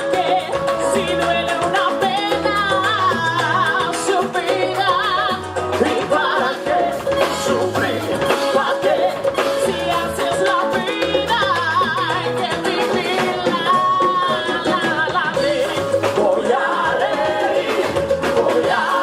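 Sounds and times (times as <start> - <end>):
latin-style backing music: 0.0 - 19.0
person singing with vibrato: 0.0 - 19.0.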